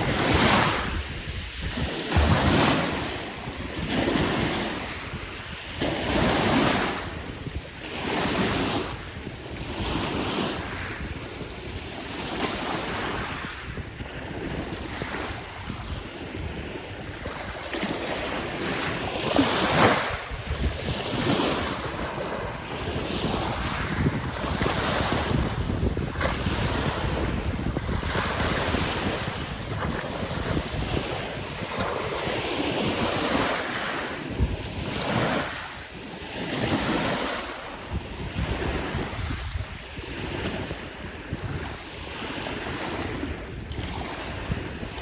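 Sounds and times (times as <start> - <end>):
waves breaking on pebble beach: 0.0 - 45.0
wind buffeting microphone: 0.0 - 45.0.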